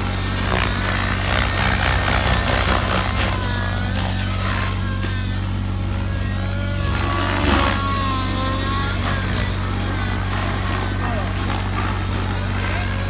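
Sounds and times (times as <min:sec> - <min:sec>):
rc helicopter rotor and motor whine: 0:00.0 - 0:13.0
steady low hum: 0:00.0 - 0:13.0.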